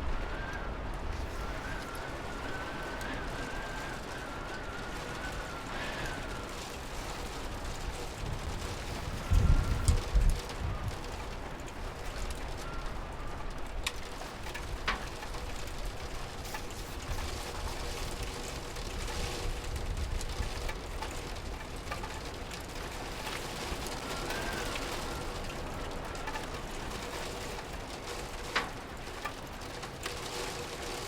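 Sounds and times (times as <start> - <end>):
louder raindrops ticking: 0.0 - 31.0
steady rain: 0.0 - 31.0.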